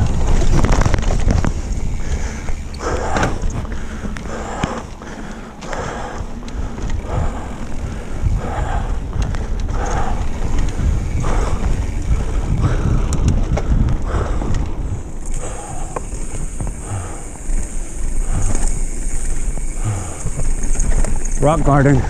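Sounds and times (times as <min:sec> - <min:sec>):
bike clicking and rattling: 0:00.0 - 0:22.0
tyre noise on dirt: 0:00.0 - 0:22.0
wind buffeting microphone: 0:00.0 - 0:22.0.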